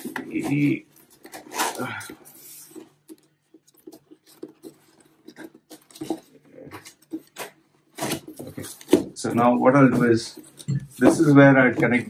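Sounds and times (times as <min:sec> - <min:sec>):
cardboard flaps rustling: 0:00.0 - 0:12.0.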